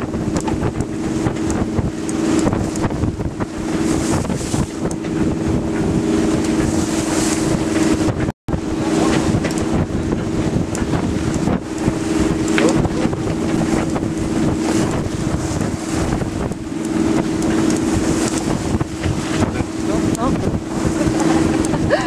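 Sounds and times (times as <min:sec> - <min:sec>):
sea splashing along hull: 0:00.0 - 0:22.0
wind buffeting microphone: 0:00.0 - 0:22.0.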